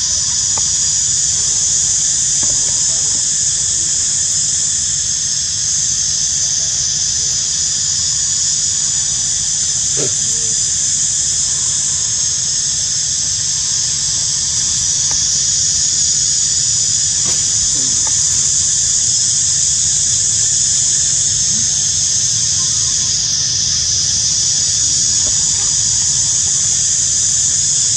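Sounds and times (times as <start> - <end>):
cicada chorus drone: 0.0 - 27.9.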